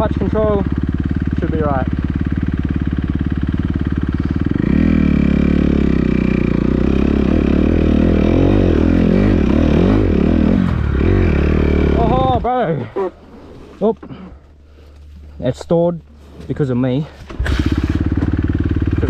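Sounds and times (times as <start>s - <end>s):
motocross engine revving: 0.0s - 13.1s, 16.7s - 19.0s.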